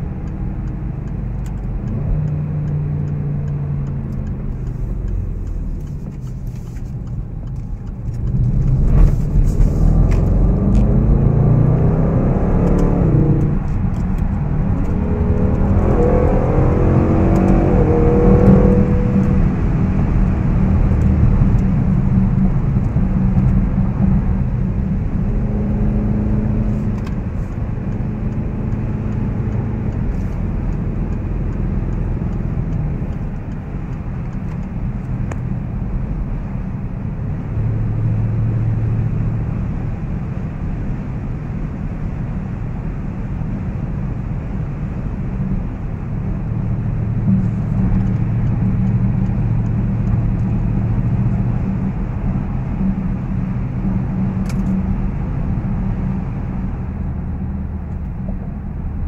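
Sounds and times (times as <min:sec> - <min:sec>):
car engine accelerating: 0:00.0 - 0:59.0
tyre and road noise: 0:00.0 - 0:59.0.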